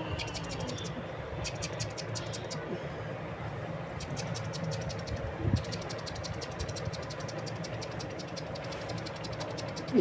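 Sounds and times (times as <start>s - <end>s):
machine humming and ticking: 0.0s - 2.7s, 3.3s - 10.0s.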